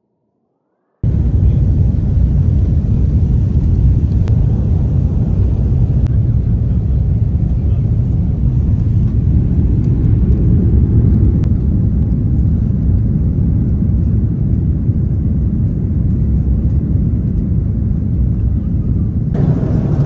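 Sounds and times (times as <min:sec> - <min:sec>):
airliner cabin rumble: 0:01.0 - 0:20.0.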